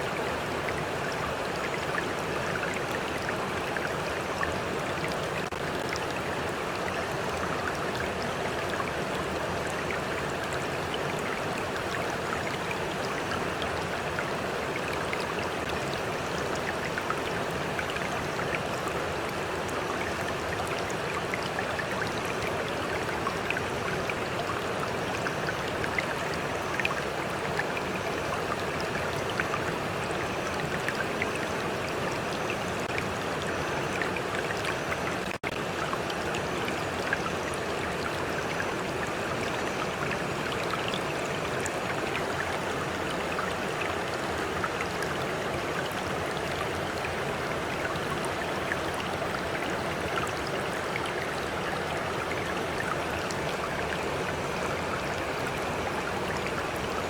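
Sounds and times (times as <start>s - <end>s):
small splashes and trickles: 0.0s - 57.0s
stream water rushing: 0.0s - 57.0s.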